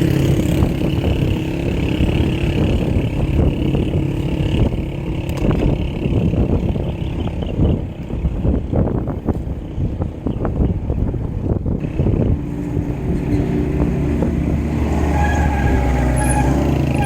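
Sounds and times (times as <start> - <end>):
engine-like hum: 0.0 - 17.0
wind buffeting microphone: 0.0 - 17.0.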